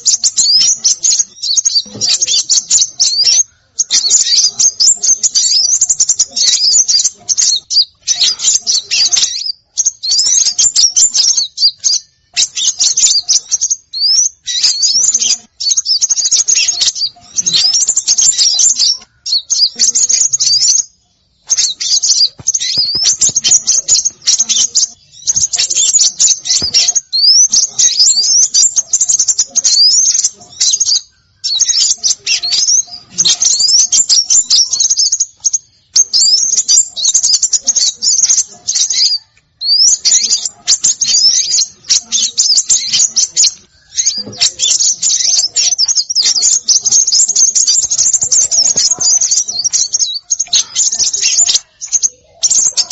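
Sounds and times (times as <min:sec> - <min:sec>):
songbirds chirping and trilling: 0:00.0 - 0:52.9.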